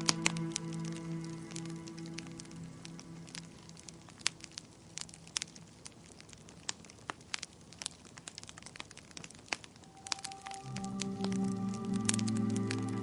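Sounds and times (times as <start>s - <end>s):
faint hiss: 0.0s - 13.0s
wood fire crackling: 0.0s - 13.0s.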